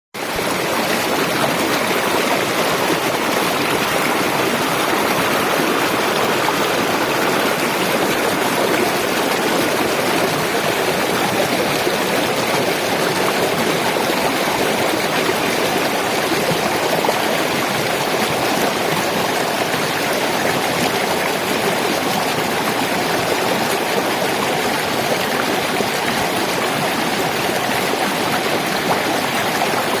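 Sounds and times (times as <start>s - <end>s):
water flowing steadily: 0.2s - 30.0s.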